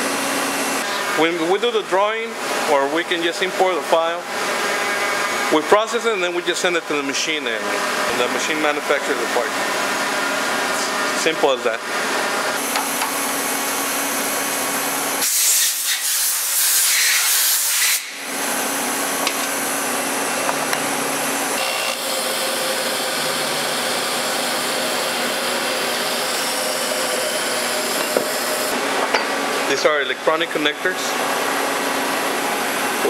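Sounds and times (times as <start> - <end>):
machinery humming: 0.0 - 15.2, 18.1 - 33.0.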